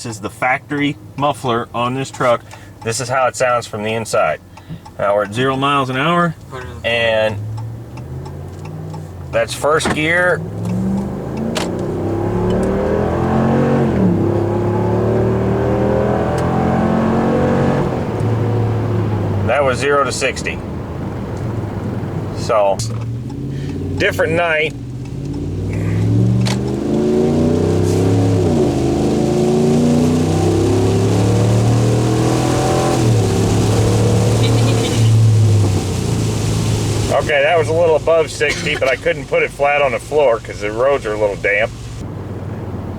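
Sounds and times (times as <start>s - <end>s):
pickup engine accelerating hard: 5.6s - 42.9s.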